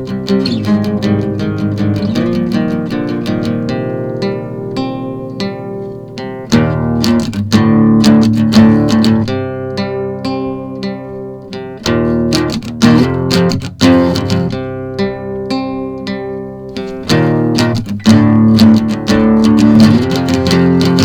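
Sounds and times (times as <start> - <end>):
acoustic guitar picked notes: 0.0 - 21.0
strummed guitar chords: 0.0 - 21.0.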